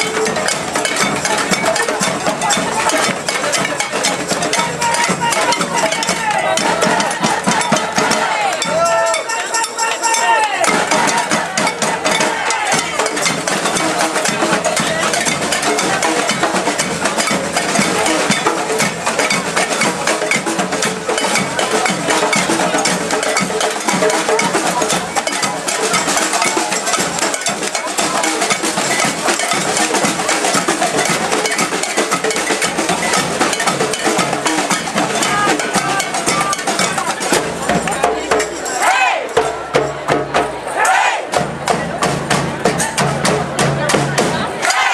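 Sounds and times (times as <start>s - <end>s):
crowd voices: 0.0s - 44.9s
drumming: 0.0s - 44.9s
rapid clanking hand percussion: 0.0s - 44.9s.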